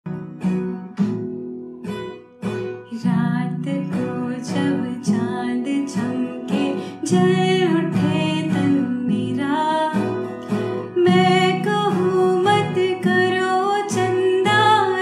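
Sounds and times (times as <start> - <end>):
acoustic guitar strumming: 0.0 - 15.0
person singing: 2.9 - 15.0.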